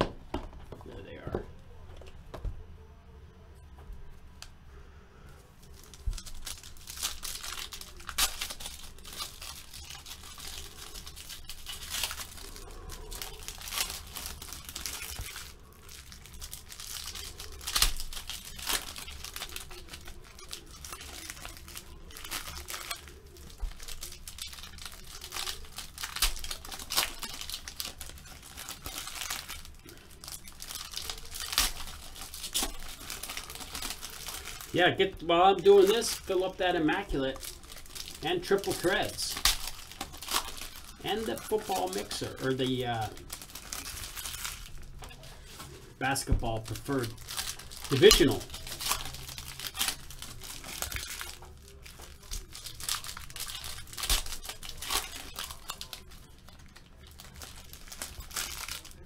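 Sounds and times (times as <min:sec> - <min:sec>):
plastic wrapping crinkling: 0:05.3 - 0:59.0
plastic wrapping ripping: 0:05.6 - 0:59.0.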